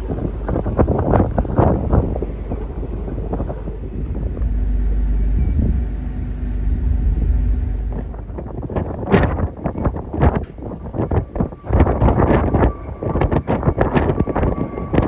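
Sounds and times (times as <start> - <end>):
faint steady hum: 0.0 - 15.0
low rumble: 0.0 - 15.0
wind buffeting microphone: 0.0 - 15.0.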